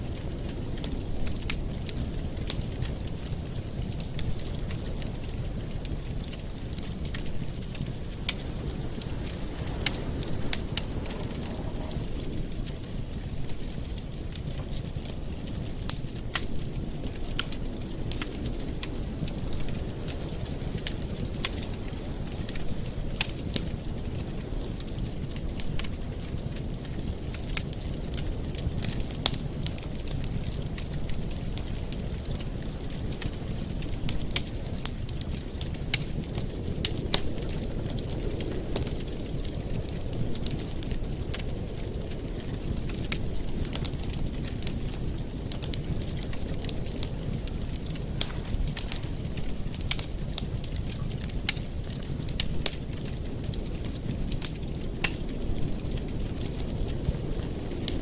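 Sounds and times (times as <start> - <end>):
campfire flames rumbling: 0.0 - 58.0
wood crackling and popping: 0.0 - 58.0.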